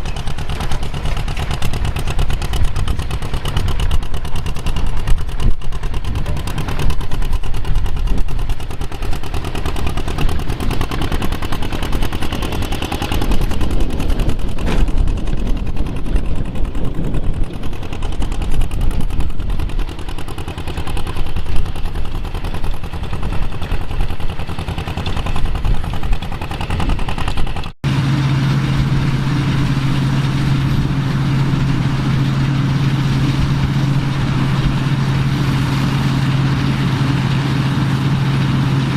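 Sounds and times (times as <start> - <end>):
clattery diesel tractor engine: 0.0 - 38.9.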